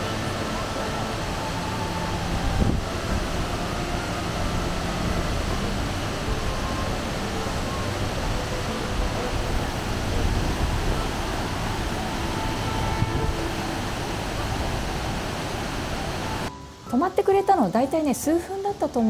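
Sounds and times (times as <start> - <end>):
waterfall roaring: 0.0 - 16.8
faint steady tones: 0.0 - 19.0.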